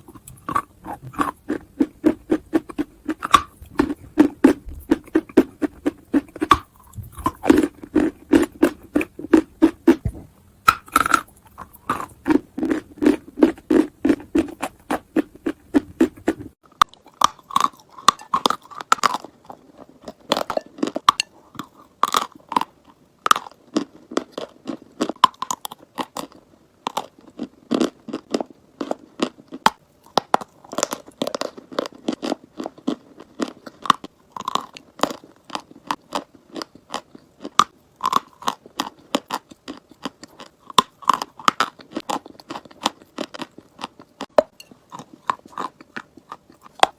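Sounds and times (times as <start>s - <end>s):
chalk crunching and chewing: 0.0s - 46.9s.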